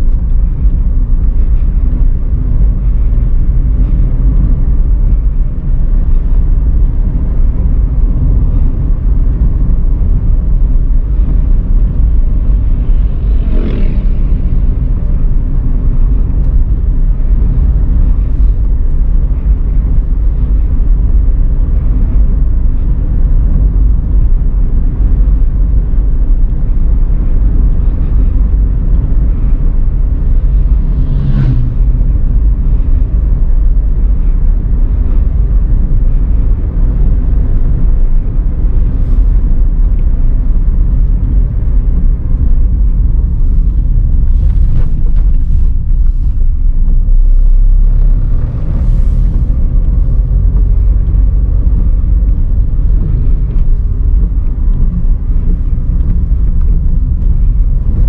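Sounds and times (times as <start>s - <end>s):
car engine and road noise rumble: 0.0s - 58.0s.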